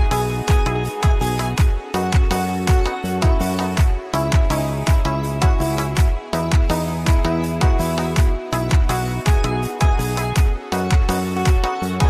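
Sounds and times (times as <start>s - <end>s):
kick drum thumps: 0.0s - 11.8s
background music with steady beat: 0.0s - 12.0s
bass line: 0.0s - 12.0s.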